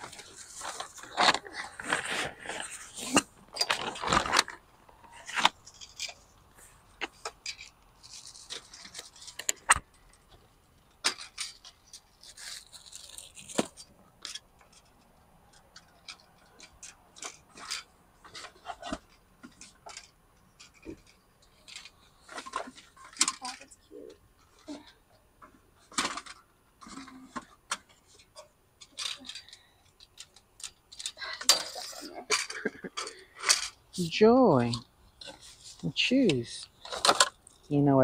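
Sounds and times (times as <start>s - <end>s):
plastic bags and cardboard rustling: 0.0s - 37.8s.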